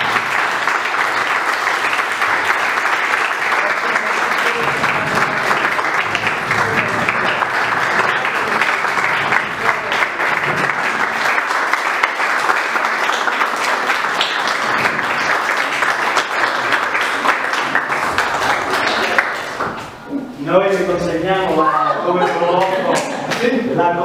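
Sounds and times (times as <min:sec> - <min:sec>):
people clapping: 0:00.0 - 0:20.1, 0:20.7 - 0:23.8.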